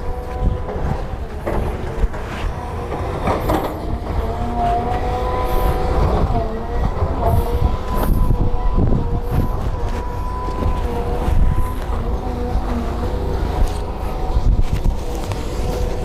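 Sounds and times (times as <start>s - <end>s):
diesel engine rumble: 0.0s - 16.0s
machinery whine: 0.0s - 16.0s.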